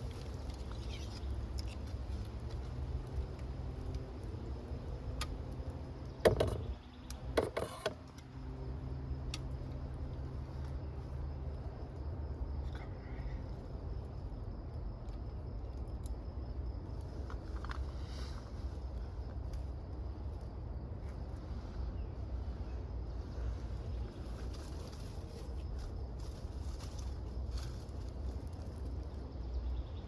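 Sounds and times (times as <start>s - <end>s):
low background rumble: 0.0s - 30.0s.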